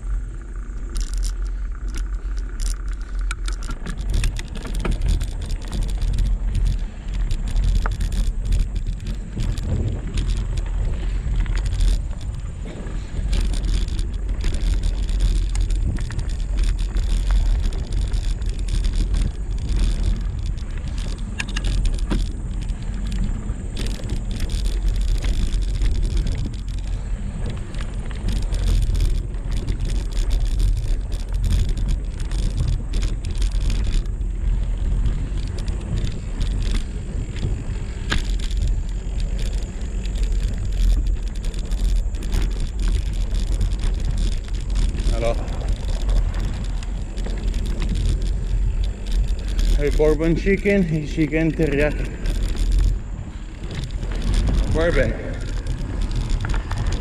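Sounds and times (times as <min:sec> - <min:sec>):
bike rattles and clicks: 0:00.0 - 0:57.0
wind and tyre rumble: 0:00.0 - 0:57.0.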